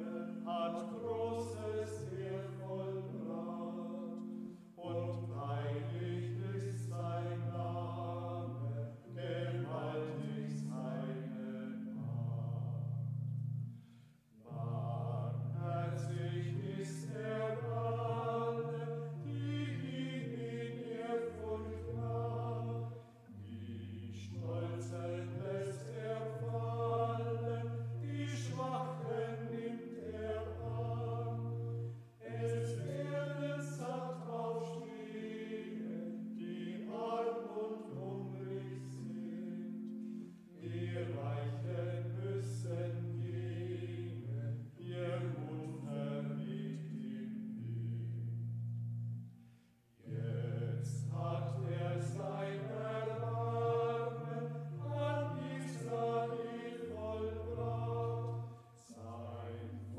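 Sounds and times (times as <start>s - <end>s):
hymn singing: 0.0s - 59.9s
organ chords: 0.0s - 59.9s.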